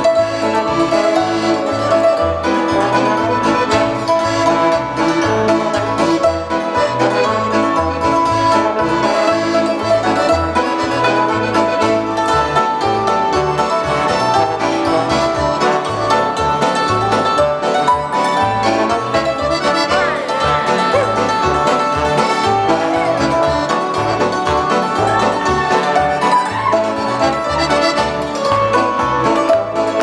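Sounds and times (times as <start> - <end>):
live polka band: 0.0 - 30.0.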